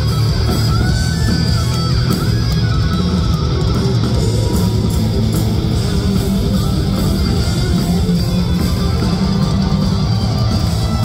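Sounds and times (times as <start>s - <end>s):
live heavy metal band playing: 0.0s - 11.0s.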